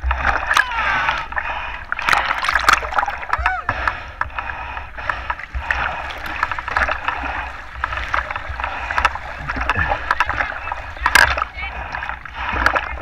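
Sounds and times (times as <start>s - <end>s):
sea water splashing: 0.0s - 13.0s.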